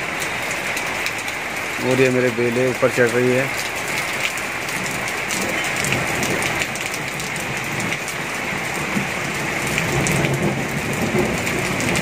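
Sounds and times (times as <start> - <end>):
heavy rain hissing: 0.0 - 12.0
raindrop hits: 0.0 - 12.0.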